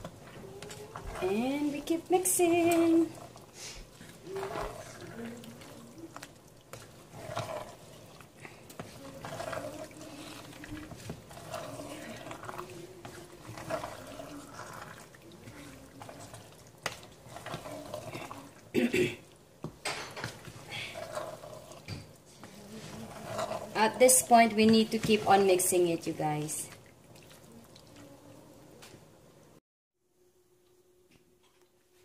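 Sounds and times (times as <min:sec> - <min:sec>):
spoon stirring thick stew: 0:00.0 - 0:28.2.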